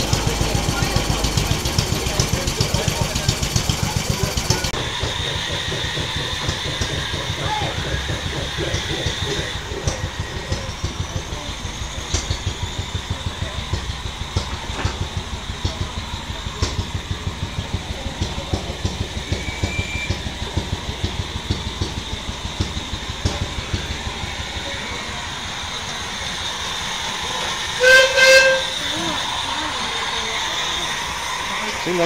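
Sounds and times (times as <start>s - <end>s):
engine thumping: 0.0s - 27.8s.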